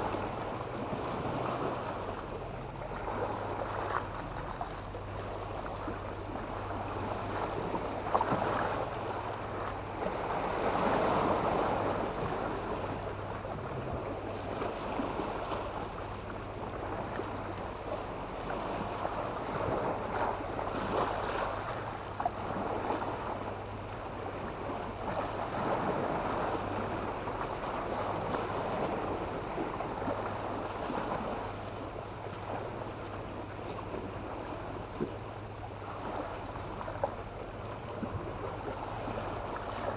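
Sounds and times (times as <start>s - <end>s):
waves breaking on a stony beach: 0.0s - 39.9s.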